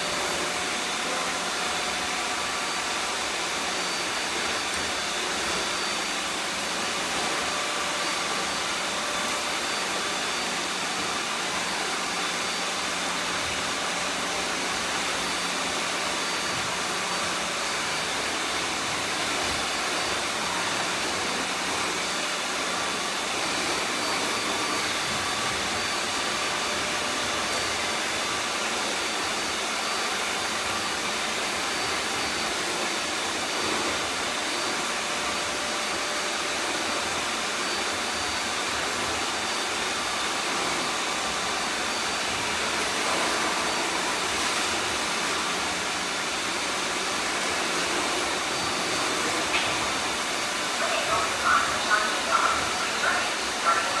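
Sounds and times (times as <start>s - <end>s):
robot vacuums whirring: 0.0s - 54.0s.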